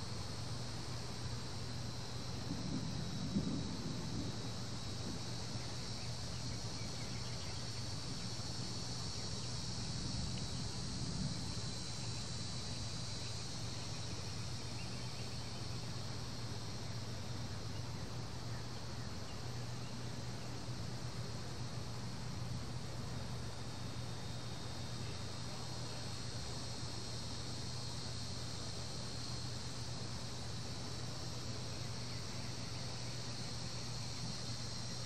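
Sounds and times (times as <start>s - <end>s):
cicadas droning: 0.0s - 35.0s
low steady hum: 0.0s - 35.0s.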